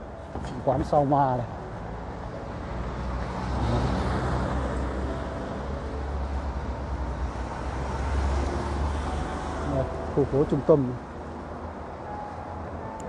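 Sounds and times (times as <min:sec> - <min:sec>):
road traffic: 0:00.0 - 0:13.0
vehicle passing: 0:01.6 - 0:13.0.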